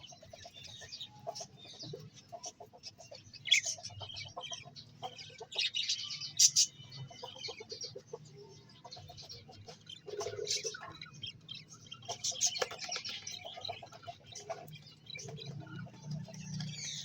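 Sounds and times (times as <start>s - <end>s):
birds chirping and twittering: 0.0s - 17.0s.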